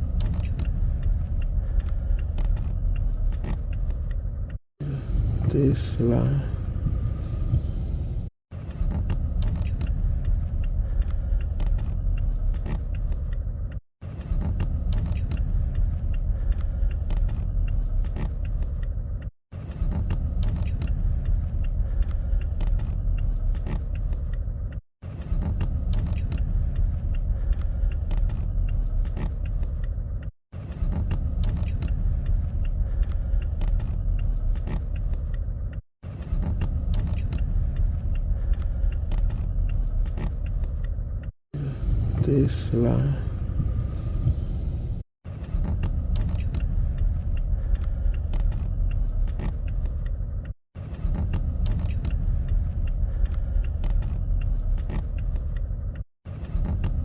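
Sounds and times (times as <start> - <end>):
car road rumble: 0.0 - 57.0.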